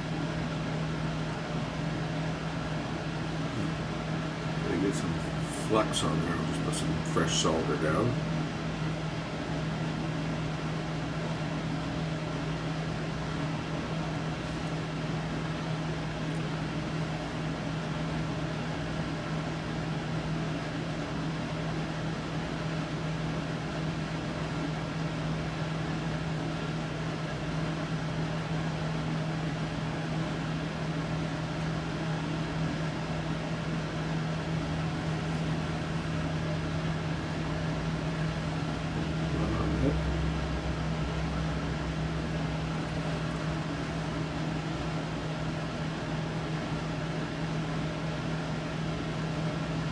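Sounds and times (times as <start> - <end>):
mechanical hum: 0.0 - 49.9.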